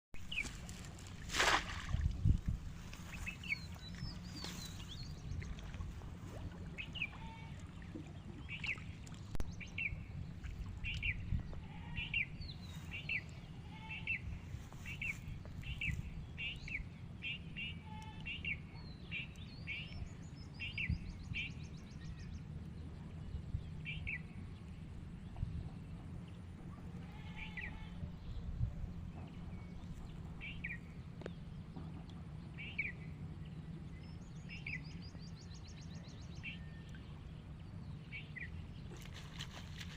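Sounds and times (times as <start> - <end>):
steady low rumble: 0.2 - 39.9.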